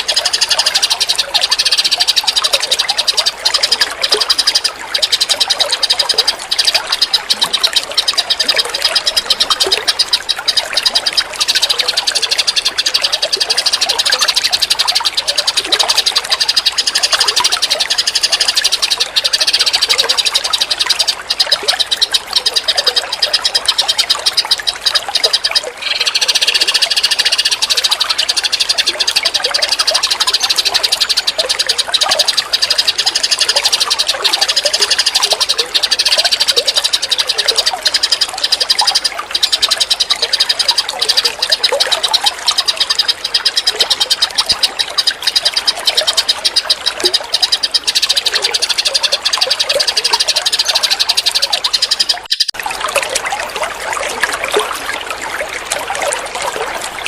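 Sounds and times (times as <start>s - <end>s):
bird chirps: 0.0s - 52.6s
high-pitched animal calls chorus: 0.0s - 57.0s
running water trickling: 0.0s - 57.0s.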